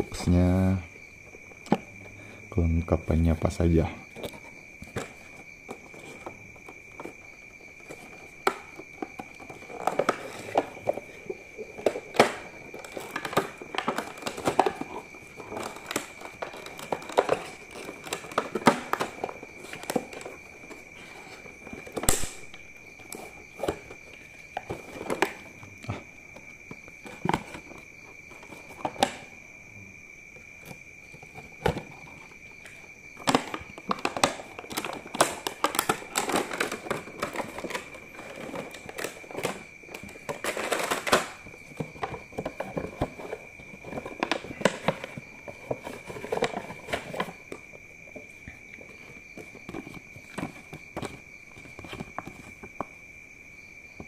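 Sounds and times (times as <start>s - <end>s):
plastic tray rustling: 3.0s - 29.3s, 30.6s - 53.0s.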